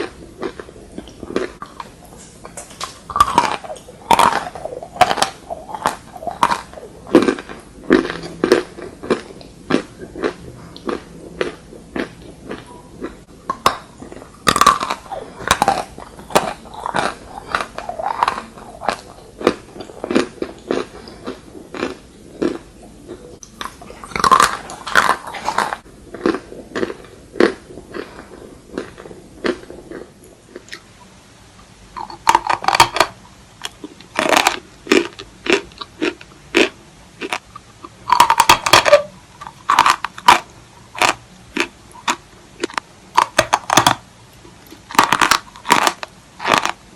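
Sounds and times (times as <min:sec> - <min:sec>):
chewing chalk crunching: 0:00.0 - 0:30.9, 0:32.0 - 0:46.8.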